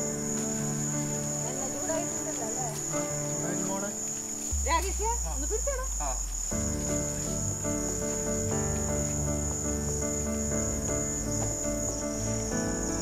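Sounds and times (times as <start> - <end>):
night insects chirping: 0.0 - 13.0
soft background music: 0.0 - 13.0.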